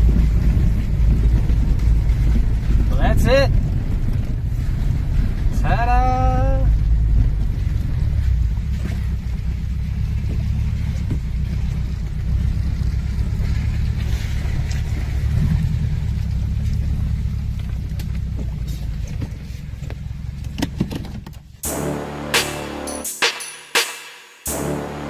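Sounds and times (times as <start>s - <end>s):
vehicle engine rumbling: 0.0s - 23.2s.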